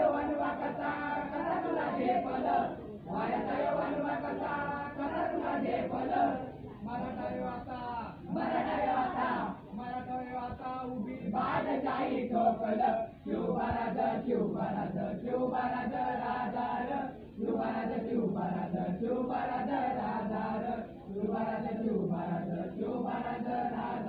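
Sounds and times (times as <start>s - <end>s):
boys singing together: 0.0s - 24.0s.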